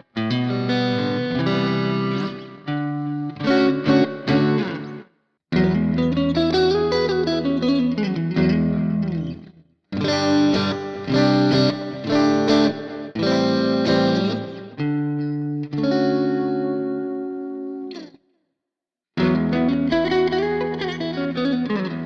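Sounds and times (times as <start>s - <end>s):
clean electric guitar chords: 0.0s - 5.0s, 5.6s - 9.4s, 10.0s - 18.1s, 19.2s - 22.0s.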